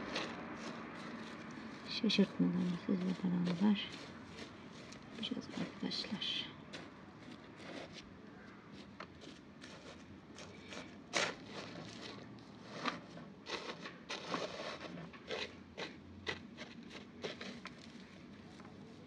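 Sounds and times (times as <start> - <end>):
small things being handled: 0.0 - 19.0.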